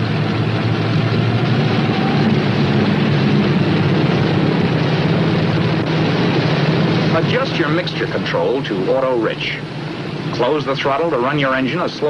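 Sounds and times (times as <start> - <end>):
radial aircraft engine droning: 0.0 - 12.0.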